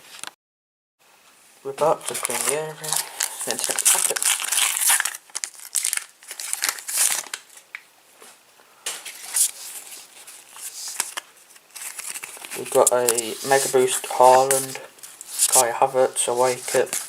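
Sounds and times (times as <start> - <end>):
wrapper crinkling and tearing: 1.9 - 7.8, 8.9 - 17.0.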